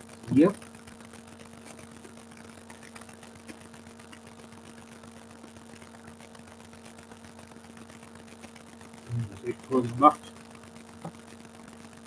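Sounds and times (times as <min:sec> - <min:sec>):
faint hum over hiss: 0:00.0 - 0:12.0.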